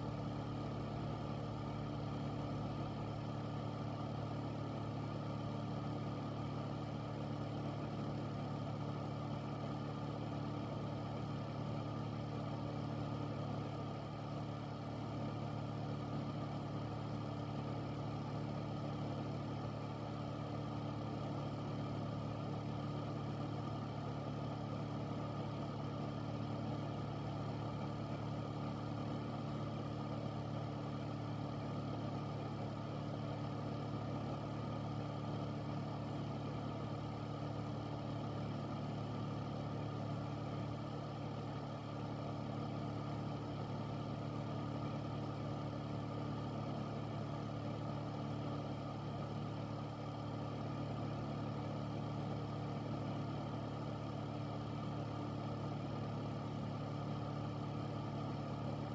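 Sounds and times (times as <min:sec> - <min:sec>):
air filter fan running: 0:00.0 - 0:58.9.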